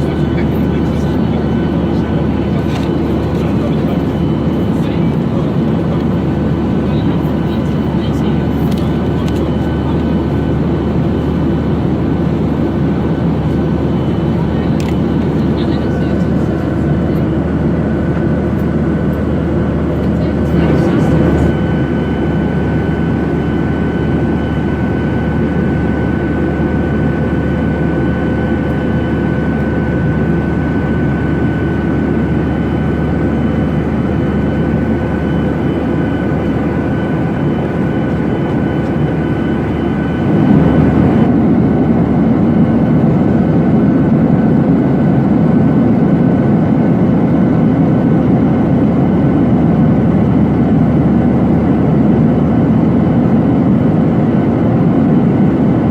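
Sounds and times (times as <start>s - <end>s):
jet engine and airflow rush: 0.0s - 55.9s.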